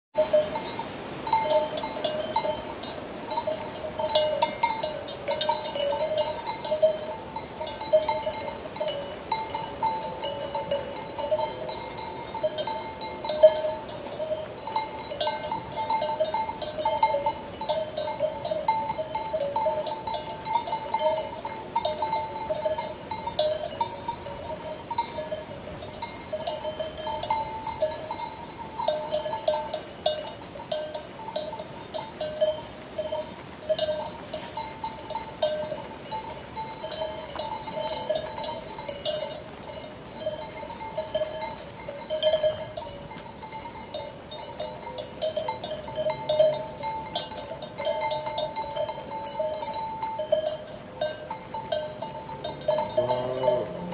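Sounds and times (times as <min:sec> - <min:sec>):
sheep bells clanking: 0:00.2 - 0:53.9.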